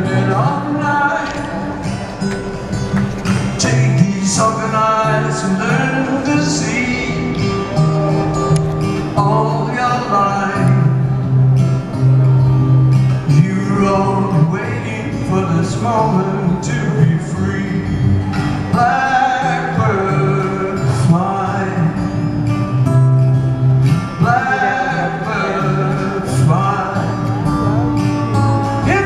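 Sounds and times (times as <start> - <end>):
man singing: 0.0 - 2.0, 3.4 - 11.3, 13.1 - 22.4, 23.9 - 29.0
fingerpicked acoustic guitar: 0.0 - 29.0.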